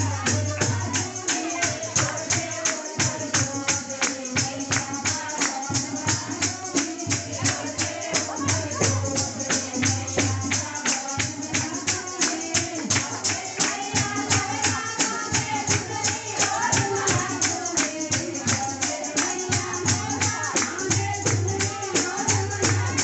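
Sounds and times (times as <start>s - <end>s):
jingling hand percussion: 0.0s - 23.0s
woman singing through loudspeaker: 0.0s - 23.0s.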